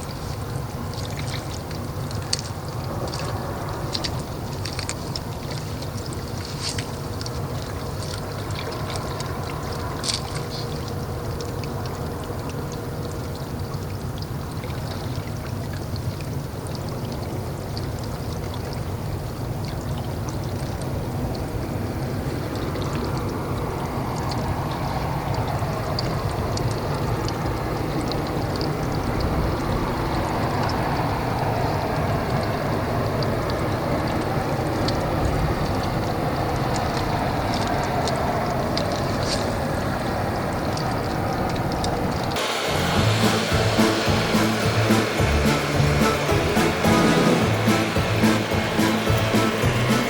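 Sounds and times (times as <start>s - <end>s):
rushing water: 0.0s - 50.0s.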